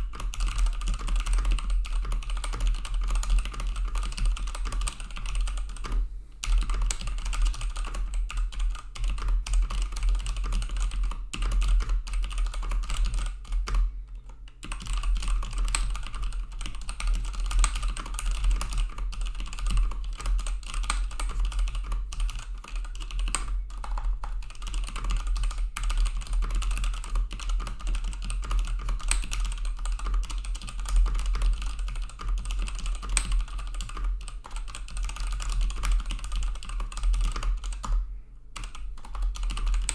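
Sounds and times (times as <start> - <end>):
fast typing on mechanical keyboard: 0.0 - 13.8, 14.6 - 38.0, 38.6 - 39.9.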